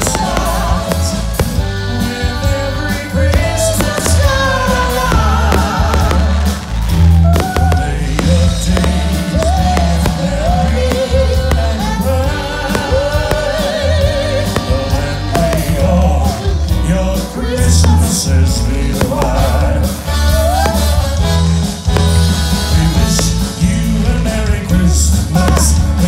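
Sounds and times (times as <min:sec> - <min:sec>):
person singing: 0:00.0 - 0:06.6, 0:07.2 - 0:21.3, 0:22.0 - 0:26.0
heavy bass beat: 0:00.0 - 0:26.0.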